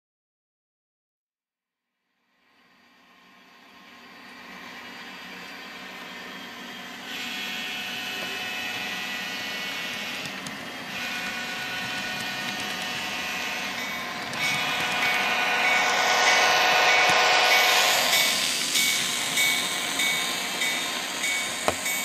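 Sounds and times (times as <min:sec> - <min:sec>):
buzzy model diesel engine sound: 0:02.4 - 0:22.0
model train rolling: 0:03.3 - 0:22.0.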